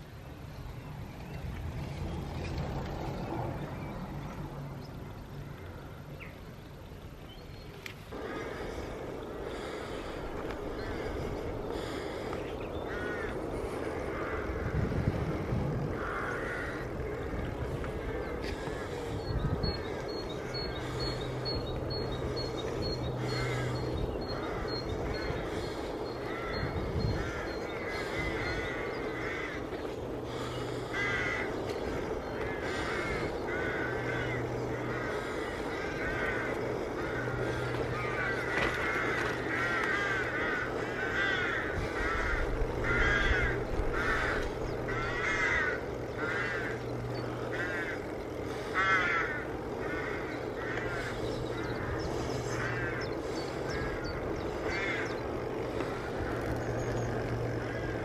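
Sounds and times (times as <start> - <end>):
crows cawing: 8.1 - 58.0.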